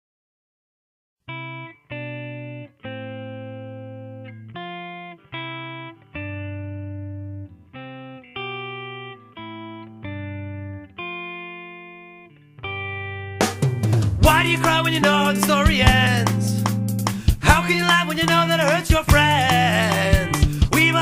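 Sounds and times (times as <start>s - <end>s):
guitar chords ringing: 1.3s - 21.0s.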